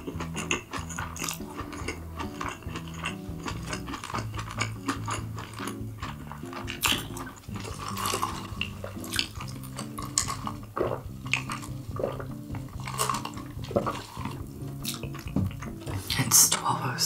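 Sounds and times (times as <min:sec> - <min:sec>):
chewing: 0:00.0 - 0:16.2.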